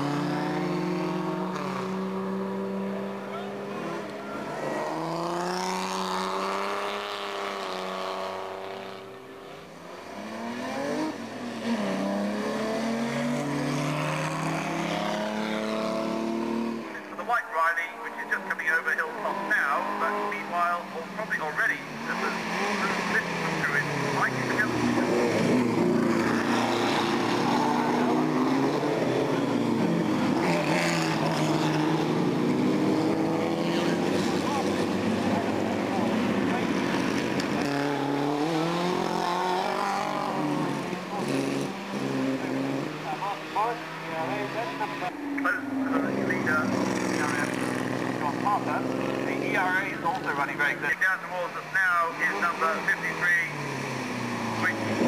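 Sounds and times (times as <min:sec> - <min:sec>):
racing car engine at speed: 0:00.0 - 0:55.0.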